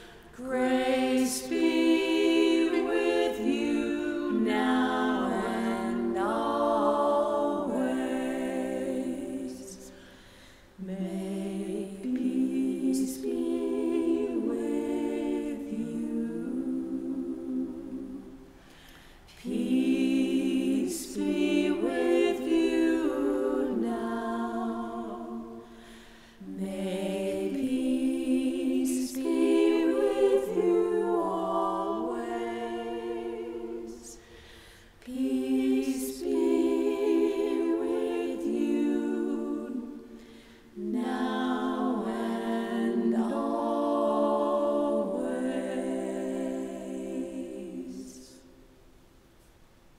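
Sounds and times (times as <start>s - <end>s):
women singing a cappella: 0.0s - 48.8s.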